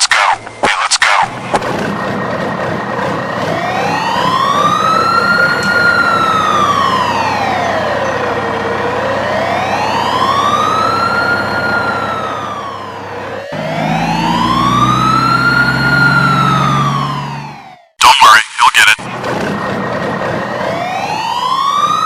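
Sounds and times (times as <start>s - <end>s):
wailing siren: 2.0s - 18.0s, 19.6s - 22.0s.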